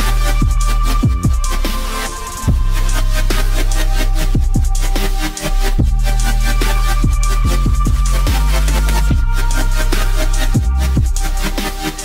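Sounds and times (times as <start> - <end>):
deep sub-bass: 0.0 - 12.0
electronic music: 0.0 - 12.0
pitch-dropping kick drums: 0.0 - 12.0.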